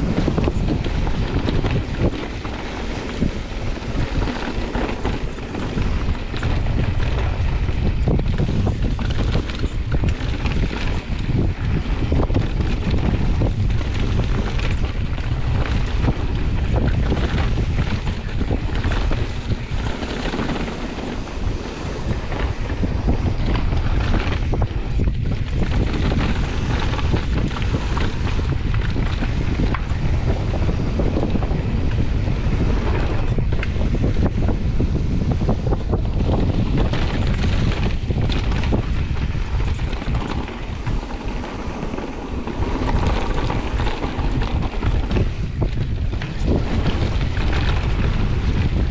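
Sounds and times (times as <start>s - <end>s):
tyres rumbling on gravel: 0.0s - 48.9s
wind buffeting microphone: 0.0s - 48.9s.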